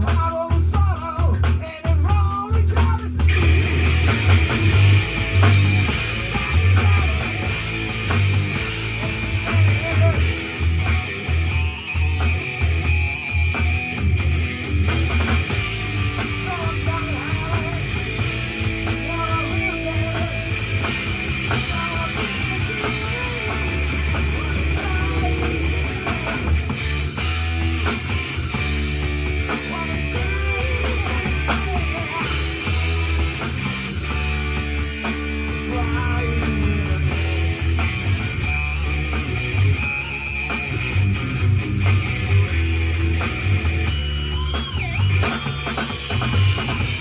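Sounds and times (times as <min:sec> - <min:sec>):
drum kit and cymbal hits: 0:00.0 - 0:47.0
rock band with electric guitar: 0:00.0 - 0:47.0.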